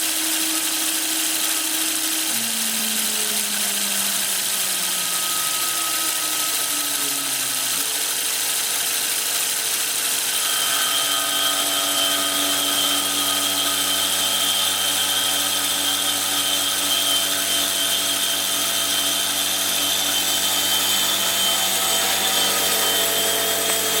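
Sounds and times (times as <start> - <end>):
milling machine whine: 0.0 - 24.0.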